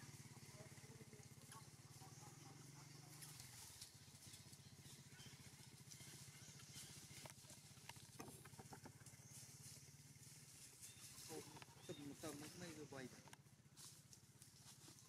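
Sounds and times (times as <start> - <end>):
faint small engine running: 0.0 - 15.0.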